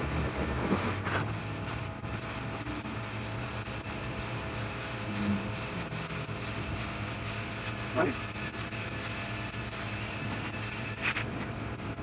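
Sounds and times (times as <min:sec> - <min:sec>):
suction hiss: 0:00.0 - 0:11.4
extraction unit humming: 0:00.0 - 0:12.0.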